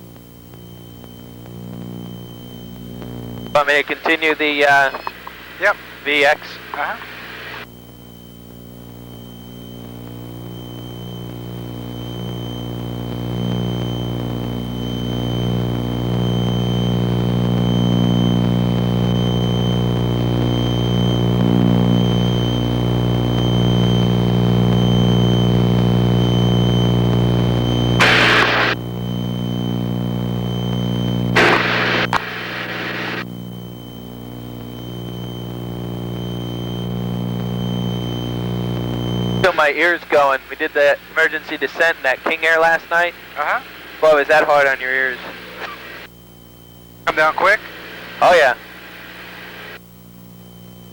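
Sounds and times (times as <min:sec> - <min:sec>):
thin steady whine: 0:00.0 - 0:50.9.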